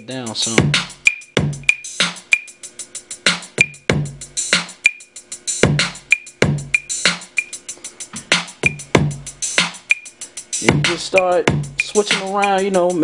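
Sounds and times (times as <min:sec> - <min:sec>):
hip-hop drum loop: 0:00.0 - 0:13.0.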